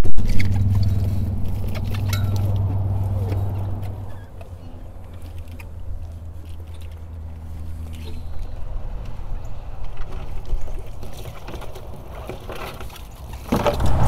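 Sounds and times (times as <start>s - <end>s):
outboard motor idling: 0.2s - 14.0s.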